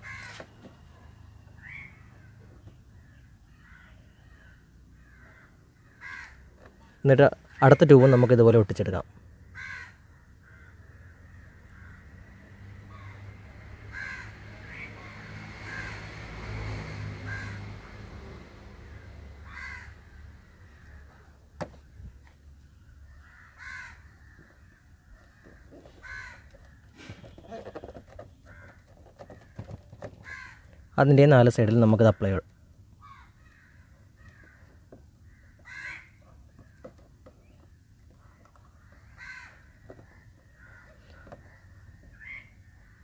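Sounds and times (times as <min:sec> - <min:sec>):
crows cawing: 0:00.0 - 0:00.6, 0:01.6 - 0:08.6, 0:09.4 - 0:16.2, 0:17.2 - 0:18.0, 0:18.8 - 0:21.7, 0:22.9 - 0:31.0, 0:32.1 - 0:43.0.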